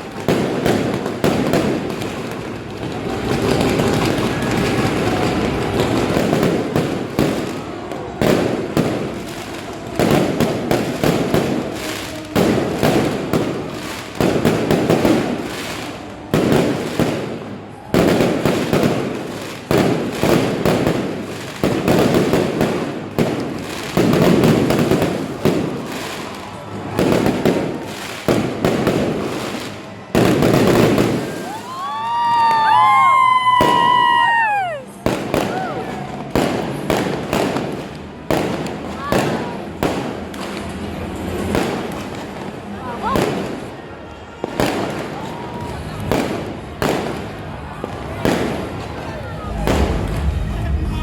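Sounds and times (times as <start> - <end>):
fireworks bangs with crackle: 0.0 - 51.0
whistling fireworks: 0.0 - 51.0.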